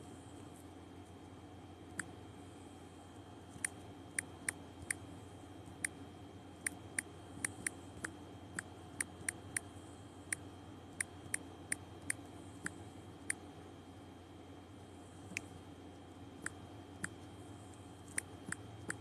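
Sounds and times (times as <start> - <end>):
faint steady background: 0.0 - 19.0.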